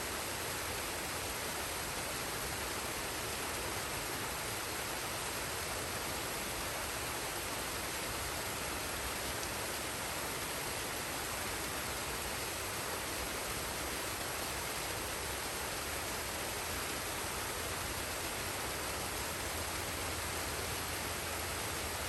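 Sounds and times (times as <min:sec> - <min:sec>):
waterfall and stream rushing: 0:00.0 - 0:22.0.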